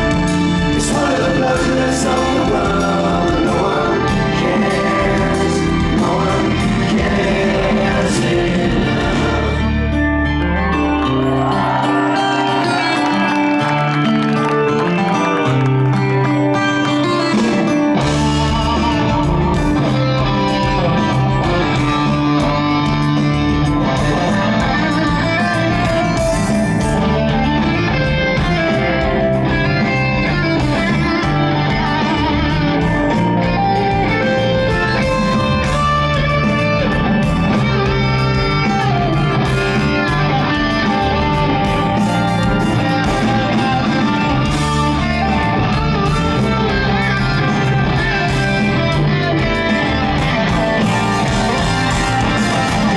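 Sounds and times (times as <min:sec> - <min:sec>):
steady drum beat: 0:00.0 - 0:09.6, 0:18.0 - 0:52.9
bass guitar: 0:00.0 - 0:52.9
rock guitar: 0:00.0 - 0:52.9.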